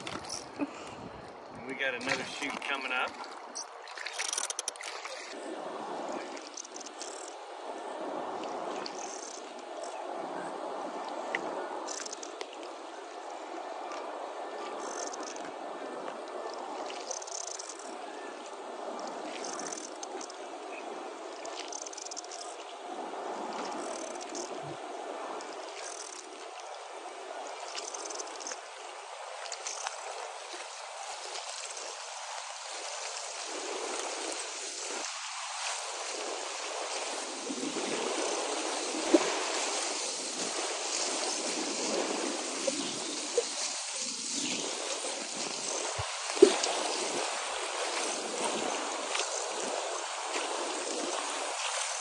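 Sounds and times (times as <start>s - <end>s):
river water rushing: 0.0s - 0.7s, 1.3s - 52.0s.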